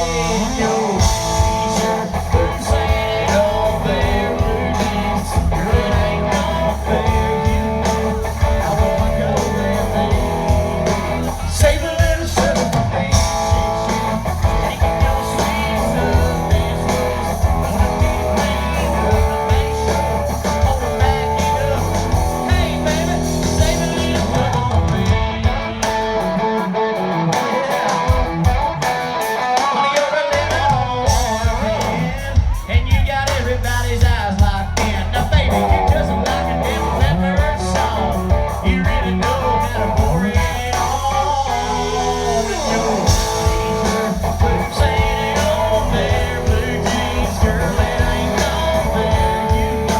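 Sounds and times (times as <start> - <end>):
man singing: 0.0 - 26.0, 29.2 - 49.9
country-rock band playing: 0.0 - 49.9.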